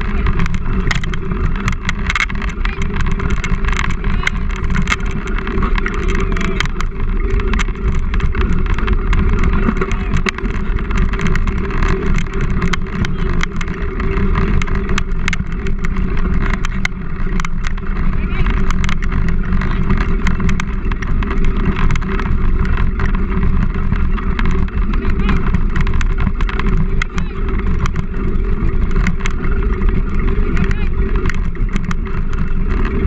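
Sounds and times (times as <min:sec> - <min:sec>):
bike rattles and clicks: 0:00.0 - 0:33.0
wheels rumbling over dirt trail: 0:00.0 - 0:33.0.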